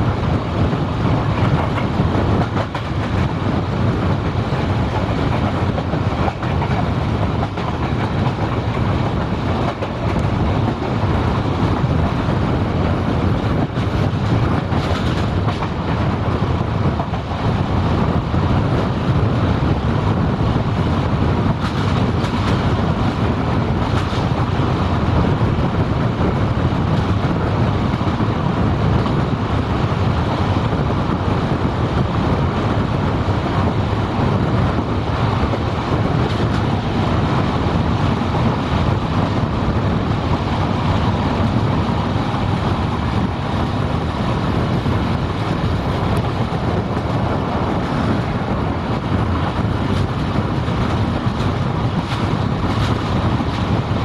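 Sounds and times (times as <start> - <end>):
rushing air: 0.0 - 54.0
train wheels rumbling on rails: 0.0 - 54.0.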